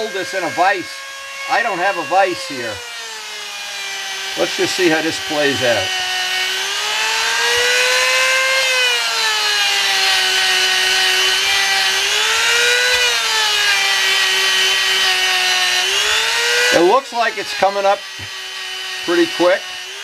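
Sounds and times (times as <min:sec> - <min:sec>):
rotary tool whining: 0:00.0 - 0:20.0.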